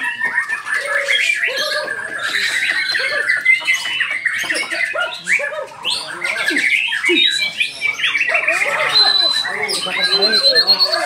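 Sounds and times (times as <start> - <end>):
several birds singing: 0.0 - 11.0.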